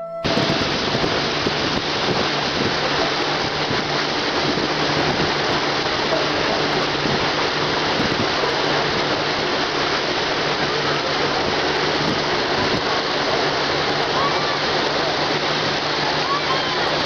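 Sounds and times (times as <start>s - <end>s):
low engine hum: 0.0s - 17.0s
rushing wind and water: 0.0s - 17.0s.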